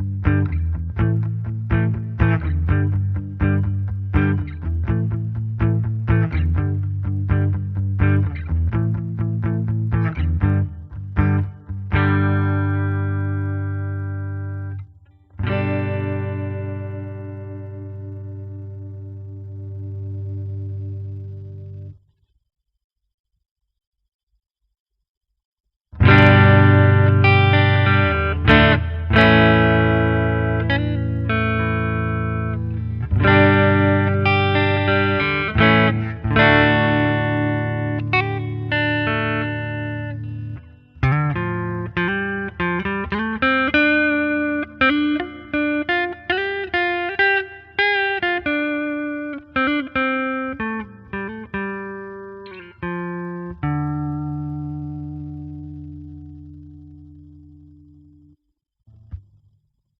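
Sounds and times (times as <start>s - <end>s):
clean electric guitar playing: 0.0s - 22.0s, 26.0s - 59.3s.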